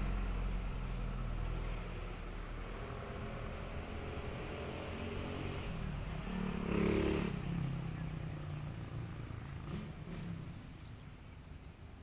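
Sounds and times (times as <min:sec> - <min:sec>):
passing vehicle engine: 0:00.0 - 0:11.7.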